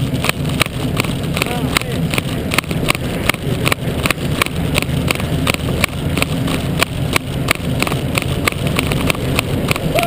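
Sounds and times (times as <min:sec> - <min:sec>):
tyres knocking over rumble strips: 0:00.0 - 0:10.0
wind and tyre rumble: 0:00.0 - 0:10.0.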